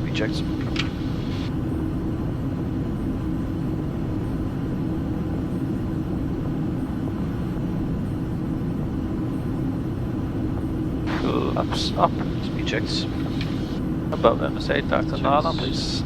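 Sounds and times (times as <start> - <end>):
aircraft cockpit engine rumble: 0.0 - 16.0.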